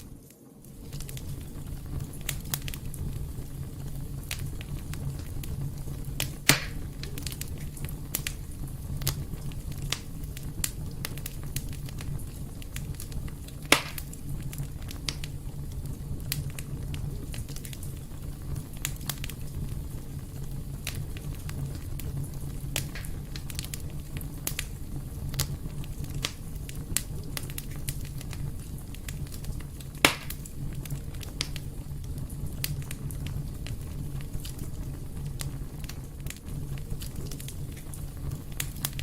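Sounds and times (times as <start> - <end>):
fire crackling: 0.0 - 39.0
loud fire pops: 0.0 - 39.0.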